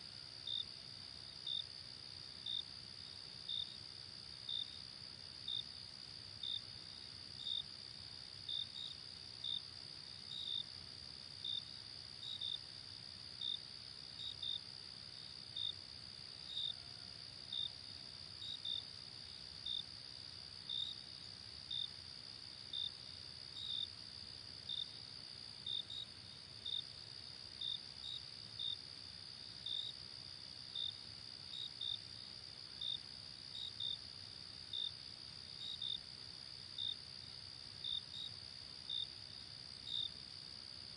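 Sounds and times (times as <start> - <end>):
cricket chirps: 0.0 - 40.9.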